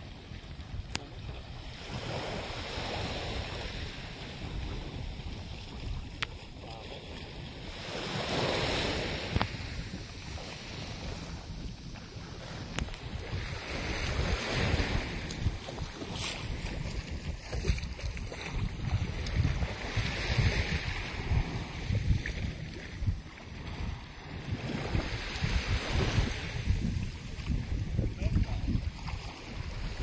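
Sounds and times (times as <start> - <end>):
small waves washing over sand: 0.0 - 30.0
wind rumble on microphone: 0.0 - 30.0.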